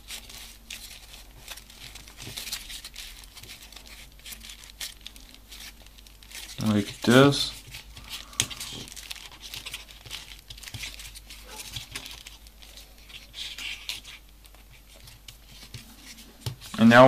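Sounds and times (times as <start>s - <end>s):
small paper clicks: 0.0s - 16.8s
folded paper rustling and crackling: 0.0s - 17.0s.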